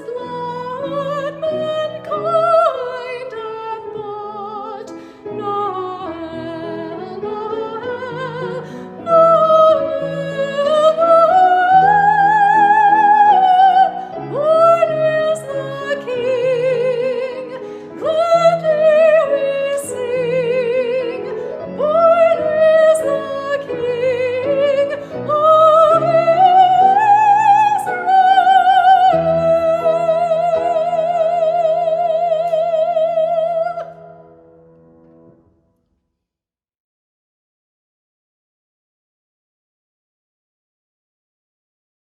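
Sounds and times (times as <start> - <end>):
woman singing operatically: 0.0 - 34.2.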